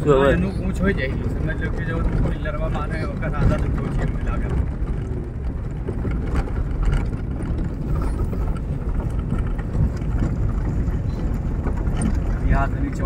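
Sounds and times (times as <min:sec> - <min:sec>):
car driving on gravel road: 0:00.0 - 0:13.0.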